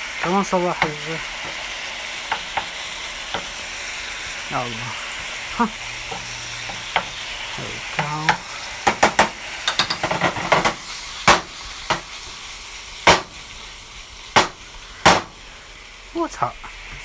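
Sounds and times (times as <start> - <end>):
steak sizzling in a frying pan: 0.0 - 17.0.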